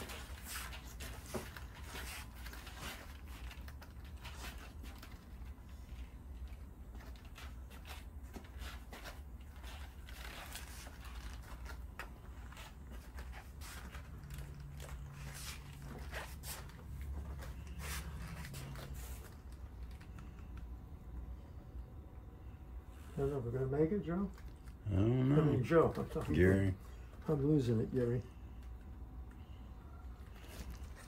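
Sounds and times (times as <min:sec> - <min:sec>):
faint hum: 0:00.0 - 0:31.0.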